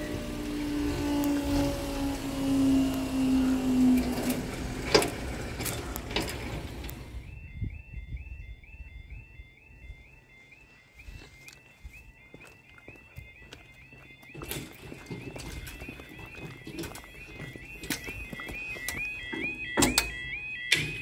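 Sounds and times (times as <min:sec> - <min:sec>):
level crossing alarm yodelling: 0:00.0 - 0:21.0
outdoor hum: 0:00.0 - 0:21.0.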